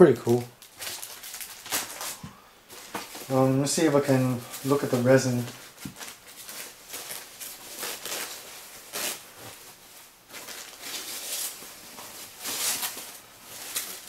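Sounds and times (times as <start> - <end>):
foam packing sheets rustling: 0.0 - 14.0.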